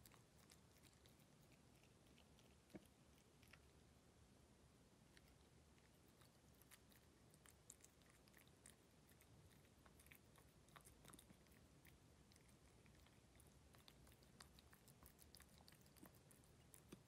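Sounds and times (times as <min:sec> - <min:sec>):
cat licking and chewing: 0:00.0 - 0:03.9, 0:05.0 - 0:17.0.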